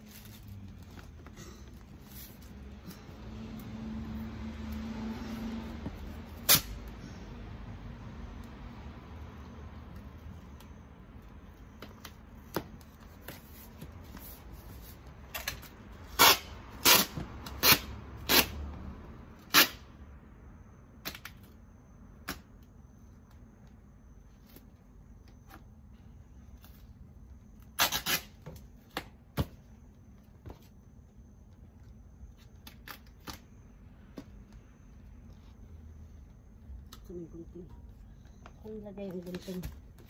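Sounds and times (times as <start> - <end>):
goods packed into cardboard box: 0.0 - 4.0, 9.4 - 18.8, 20.6 - 40.0.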